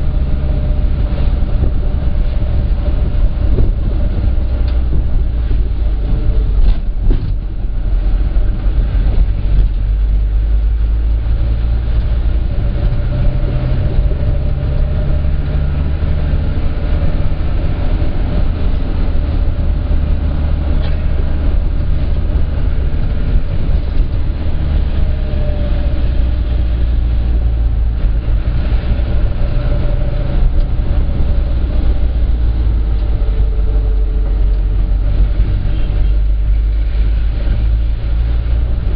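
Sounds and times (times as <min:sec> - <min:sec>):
minibus engine and road rumble: 0:00.0 - 0:38.9.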